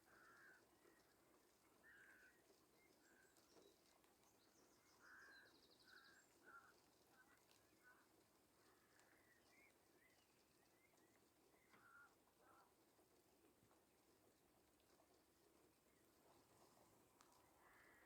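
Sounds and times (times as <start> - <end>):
faint bird calls: 0.0 - 12.8, 15.9 - 18.0.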